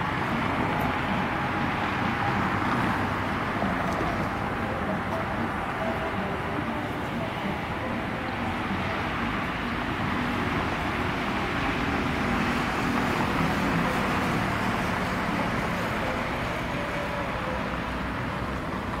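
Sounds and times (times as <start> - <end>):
freight train rolling: 0.0 - 19.0
road traffic rumble: 0.0 - 19.0.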